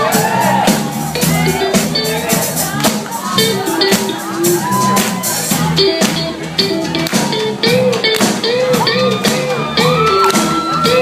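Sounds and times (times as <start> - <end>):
bass guitar: 0.0 - 11.0
drums: 0.0 - 11.0
lead guitar with bent notes: 0.0 - 11.0.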